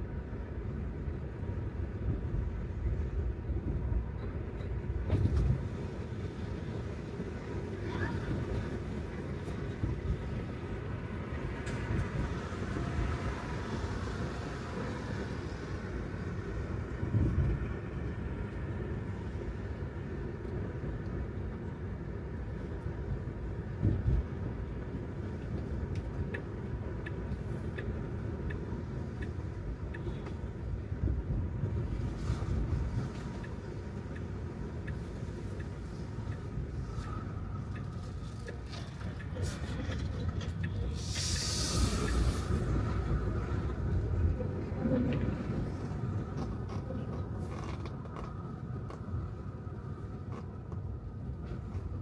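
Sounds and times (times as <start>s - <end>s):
road and tyre rumble: 0.0s - 52.0s.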